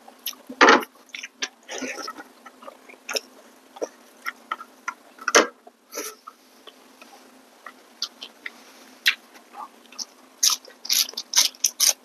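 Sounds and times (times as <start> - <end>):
wet chewing and mouth clicks: 0.2 - 5.0, 5.6 - 12.0.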